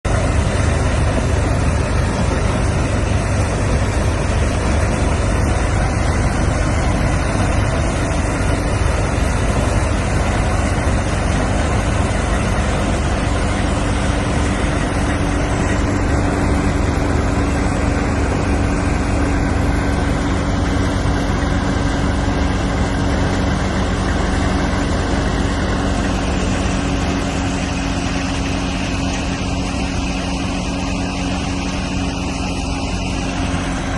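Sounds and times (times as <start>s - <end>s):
harvesting machine running: 0.0s - 33.9s
steady hum: 0.0s - 33.9s.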